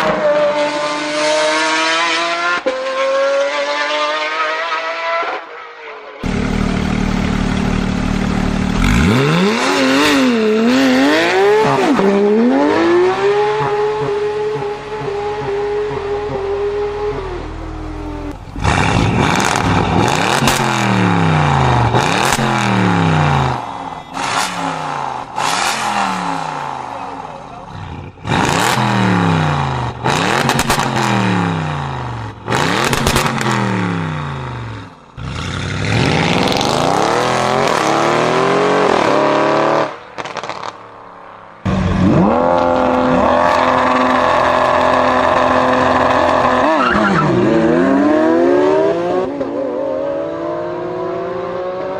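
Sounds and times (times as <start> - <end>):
car engine revving: 6.2 - 41.0, 41.6 - 51.9.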